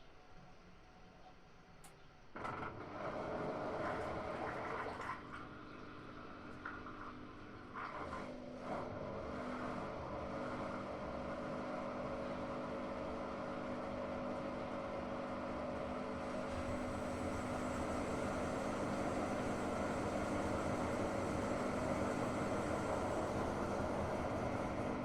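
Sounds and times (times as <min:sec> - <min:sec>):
washing machine hum: 0:02.4 - 0:25.0.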